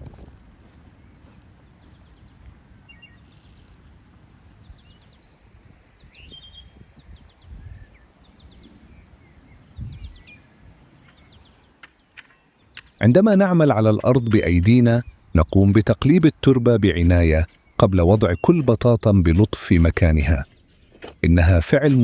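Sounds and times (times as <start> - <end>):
small birds chirping: 0.6 - 22.0.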